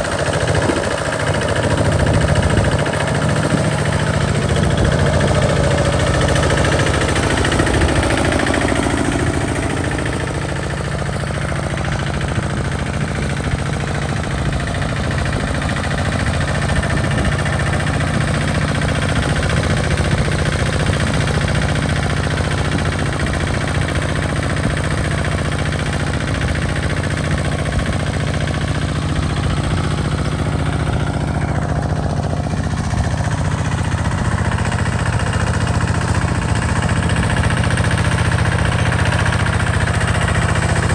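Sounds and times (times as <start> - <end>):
walking tractor engine running: 0.0 - 40.9.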